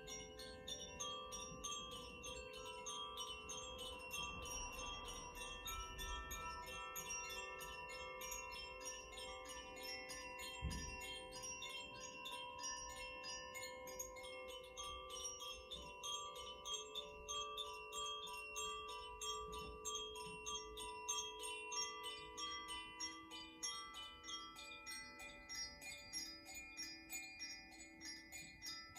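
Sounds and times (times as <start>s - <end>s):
wind chime ringing: 0.0s - 28.9s.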